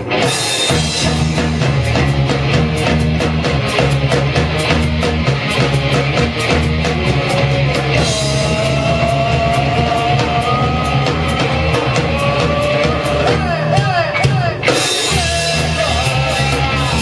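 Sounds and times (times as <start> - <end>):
guitar long rising note: 0.0 - 13.9
drum cymbal beat: 0.0 - 17.0
live rock band playing: 0.0 - 17.0.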